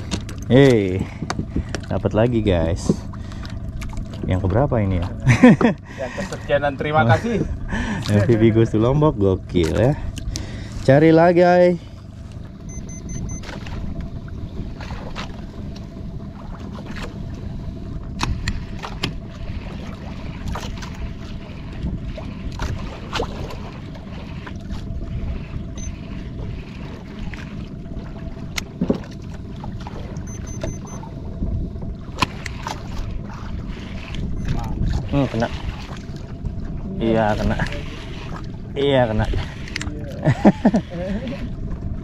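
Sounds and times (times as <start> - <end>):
boat engine low rumble: 0.0 - 42.0
water noise: 0.0 - 42.0
wind: 0.0 - 42.0.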